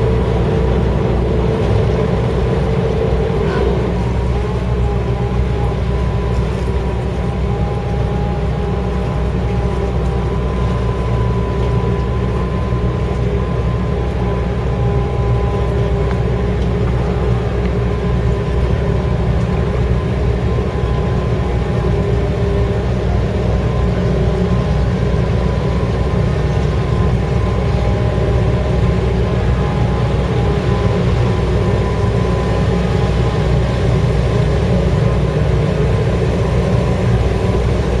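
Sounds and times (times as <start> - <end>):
ship diesel engine drone: 0.0 - 38.0.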